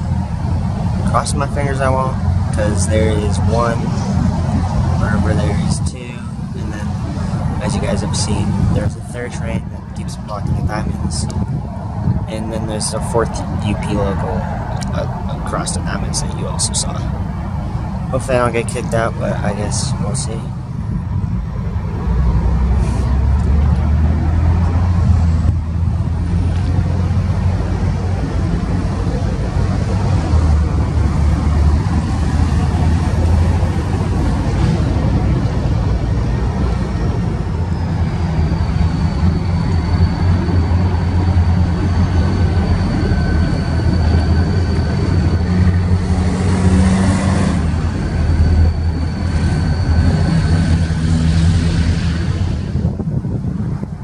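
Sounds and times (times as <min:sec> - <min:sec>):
locomotive diesel engines rumbling: 0:00.0 - 0:54.0
thin high whine: 0:00.0 - 0:54.0.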